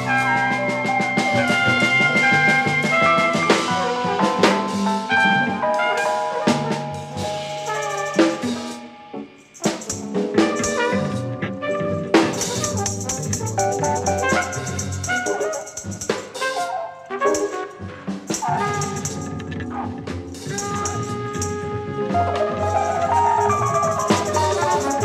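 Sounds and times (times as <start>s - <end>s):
rattling percussion: 0.0s - 16.6s, 17.2s - 25.0s
drums: 0.0s - 25.0s
keyboard notes: 0.0s - 25.0s.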